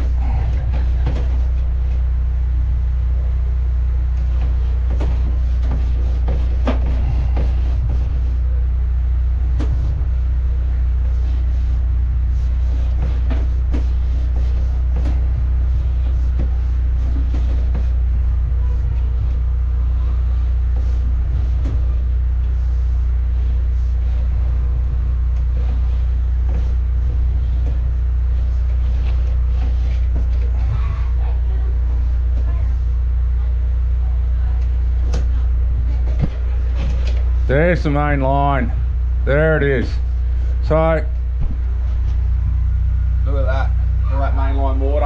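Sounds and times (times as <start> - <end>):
engine droning: 0.0 - 45.0.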